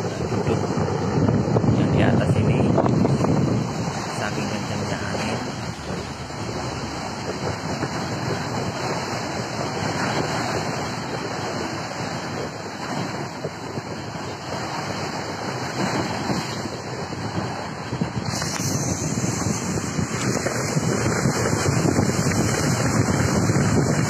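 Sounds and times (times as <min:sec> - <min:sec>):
waves surging and splashing: 0:00.0 - 0:24.0
wind buffeting microphone: 0:00.0 - 0:24.0.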